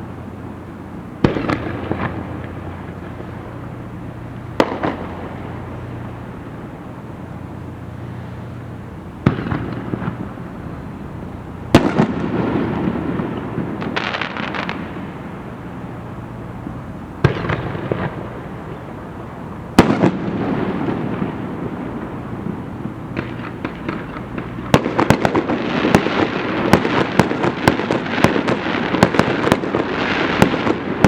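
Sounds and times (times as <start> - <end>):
fireworks booming: 0.0 - 31.0
fireworks crackling: 0.0 - 31.0
steady low hum: 0.0 - 31.0.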